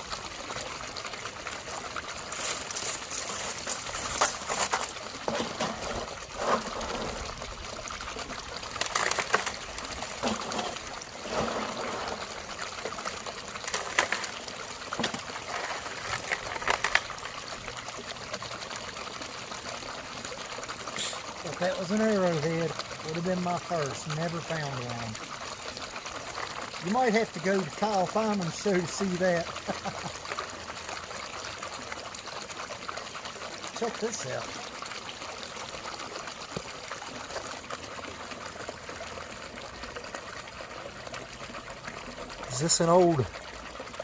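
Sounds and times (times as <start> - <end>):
creek water trickling: 0.0 - 44.0.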